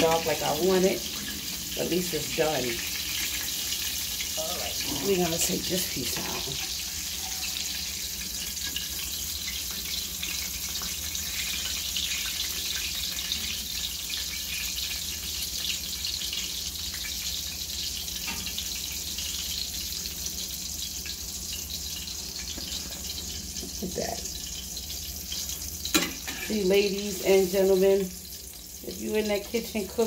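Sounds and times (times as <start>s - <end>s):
fish frying in oil: 0.0s - 30.0s.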